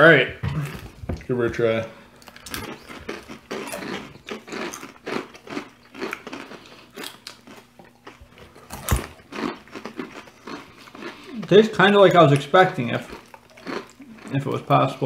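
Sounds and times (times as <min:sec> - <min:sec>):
people crunching crisp snack: 0:02.1 - 0:15.0.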